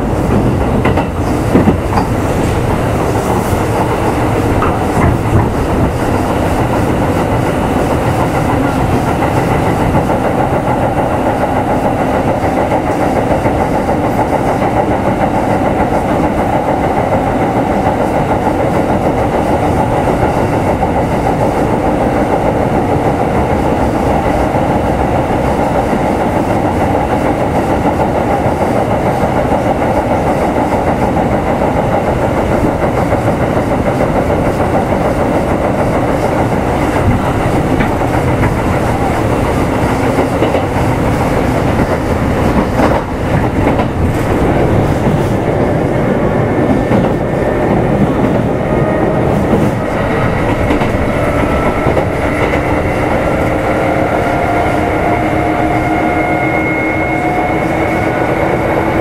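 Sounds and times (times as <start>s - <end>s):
rail joint clicks: 0.0s - 59.0s
train wheel and rail noise: 0.0s - 59.0s.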